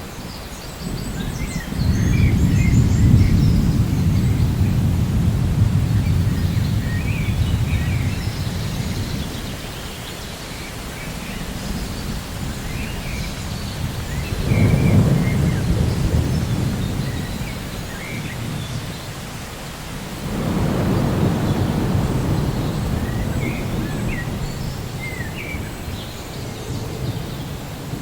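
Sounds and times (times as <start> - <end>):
birds chirping: 0.0 - 28.0
steady rain: 0.0 - 28.0
rolling thunder: 0.9 - 9.7, 11.4 - 19.1, 20.1 - 28.0.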